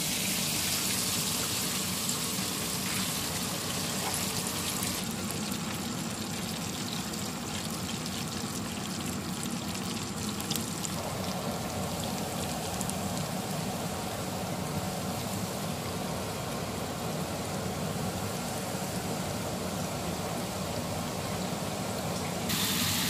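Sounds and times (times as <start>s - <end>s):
hot oil sizzling and bubbling: 0.0s - 23.0s.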